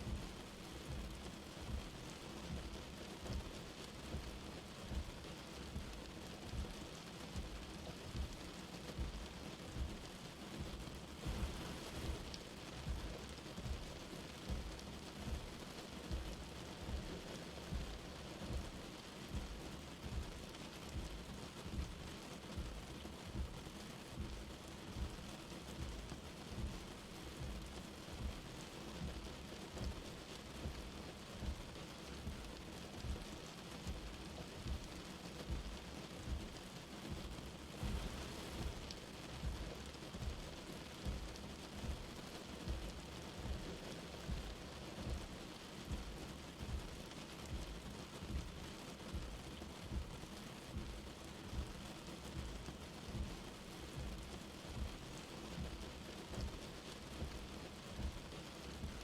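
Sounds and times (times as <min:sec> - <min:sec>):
soft low thuds: 0:00.0 - 0:01.9, 0:07.4 - 0:23.6, 0:24.2 - 0:59.0
light rain falling: 0:00.0 - 0:59.0.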